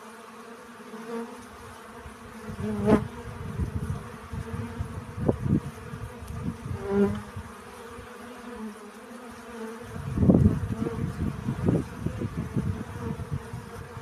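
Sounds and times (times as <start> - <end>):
bee buzzing loudly close by: 0.0 - 14.0
bees buzzing: 0.0 - 14.0.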